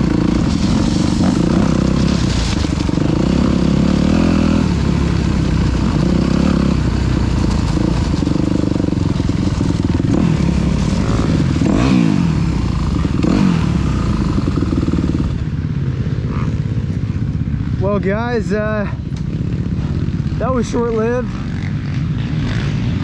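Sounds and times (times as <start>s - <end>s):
dirt bike engine revving: 0.0s - 16.9s, 17.6s - 23.0s.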